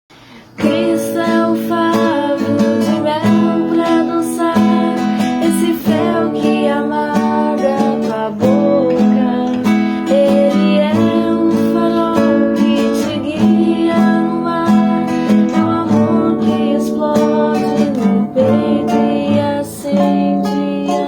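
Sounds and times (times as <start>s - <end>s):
acoustic guitar strumming chords: 0.2s - 21.0s
gliding melody line: 0.7s - 21.0s.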